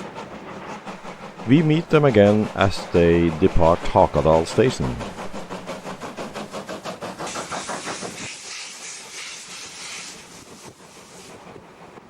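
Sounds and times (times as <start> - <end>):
loud steam hiss: 0.0 - 11.6
steam locomotive exhaust chuffing: 0.0 - 12.0.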